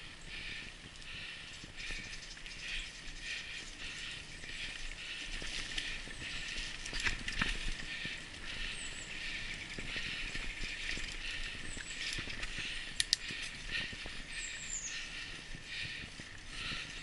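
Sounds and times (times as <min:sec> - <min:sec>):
tyres crunching on leafy trail: 0:00.1 - 0:17.0.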